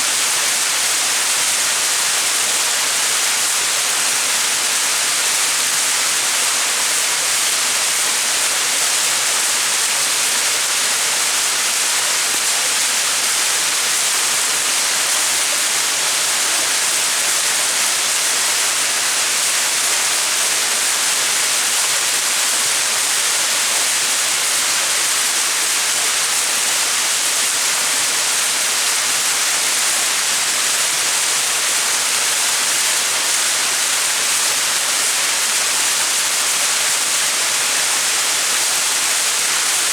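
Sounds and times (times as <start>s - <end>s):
waterfall splashing: 0.1s - 39.9s.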